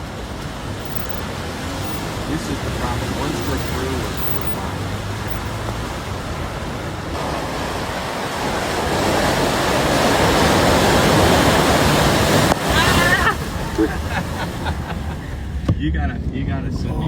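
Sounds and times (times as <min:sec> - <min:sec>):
floodwater rushing and splashing: 0:00.0 - 0:15.7.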